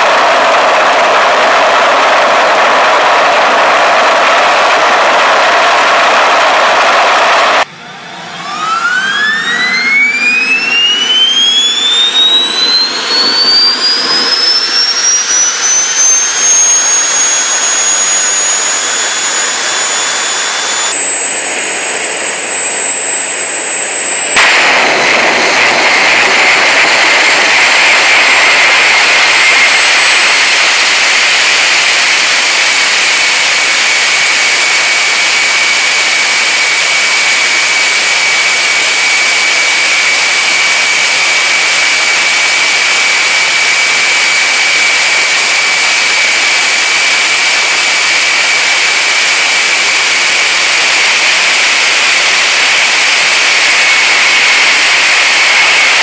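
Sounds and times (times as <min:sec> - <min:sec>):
jet engine roar: 0:00.0 - 0:56.0
jet engine whine: 0:00.0 - 0:56.0.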